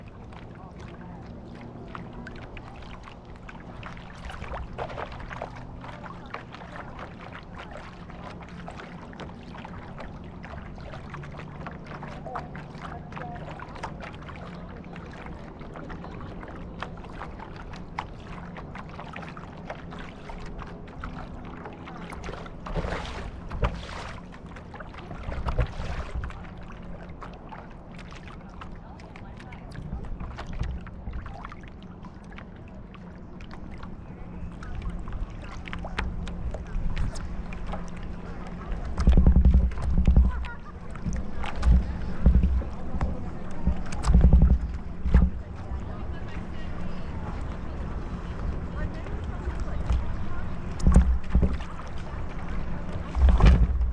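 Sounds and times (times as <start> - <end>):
low hum: 0.0 - 53.9
water splashing along hull: 0.0 - 53.9.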